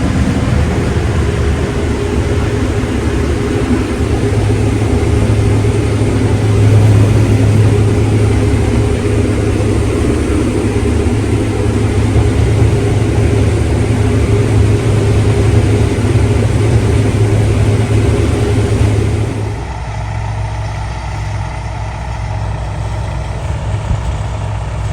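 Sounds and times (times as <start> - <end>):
heavy engine running steadily: 0.0 - 24.9.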